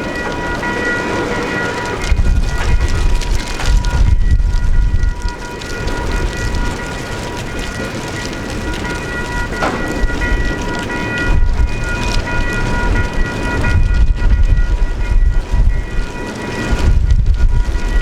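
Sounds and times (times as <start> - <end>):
freight train rumbling: 0.0 - 18.0
high train whine: 0.0 - 18.0.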